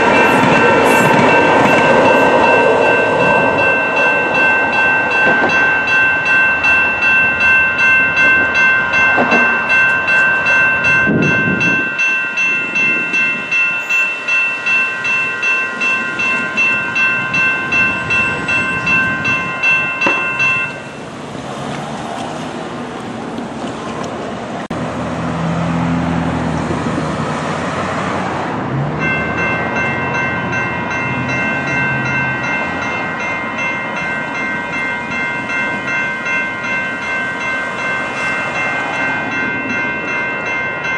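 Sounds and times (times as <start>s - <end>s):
railroad crossing bell ringing: 0.0s - 21.3s, 28.8s - 40.9s
road traffic noise: 0.0s - 40.9s.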